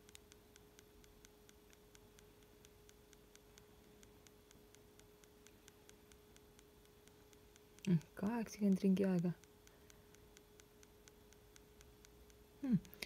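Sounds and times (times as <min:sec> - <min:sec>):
faint steady hum: 0:00.0 - 0:13.0
rapid clicking of watch button: 0:00.0 - 0:13.0.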